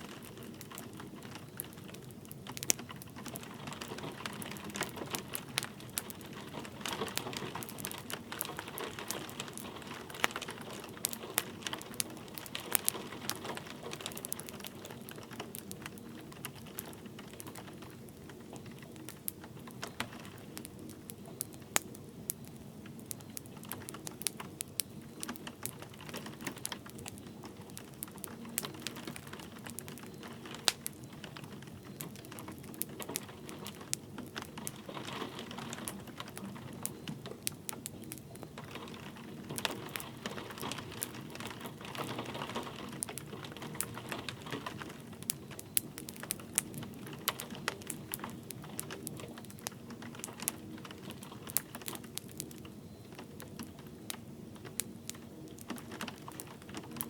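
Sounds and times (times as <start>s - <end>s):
light rain hissing: 0.0s - 57.0s
wood fire crackling: 0.0s - 57.0s.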